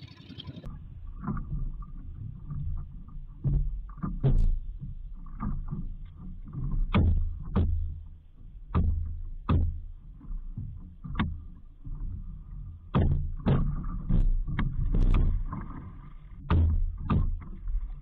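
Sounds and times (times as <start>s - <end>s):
knocks and thumps on boat: 0.4s - 18.0s.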